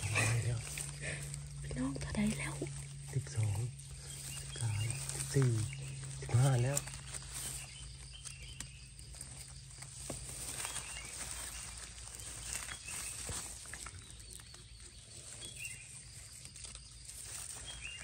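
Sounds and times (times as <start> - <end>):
faint chirps: 0.0 - 18.0
rustling of dry leaves: 0.0 - 18.0.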